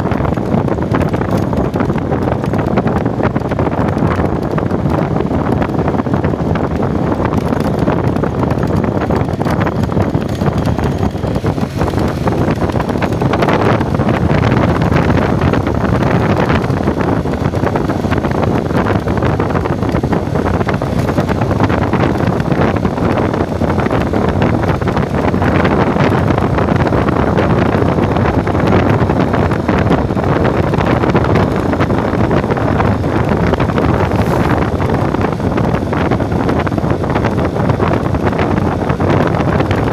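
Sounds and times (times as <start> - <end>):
vehicle running noise: 0.0 - 39.9
wind buffeting microphone: 0.0 - 39.9.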